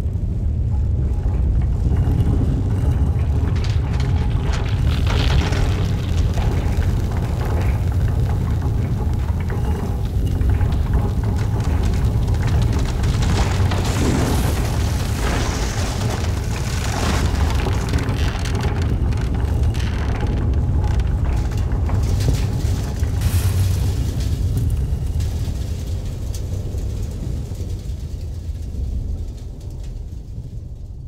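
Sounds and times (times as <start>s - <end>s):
deep low rumble: 0.0s - 31.0s
scattered crackles: 0.0s - 31.0s.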